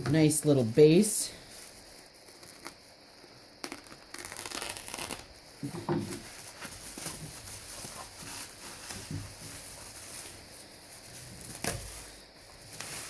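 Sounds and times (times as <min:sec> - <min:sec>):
packaging crinkling: 0:01.4 - 0:13.0.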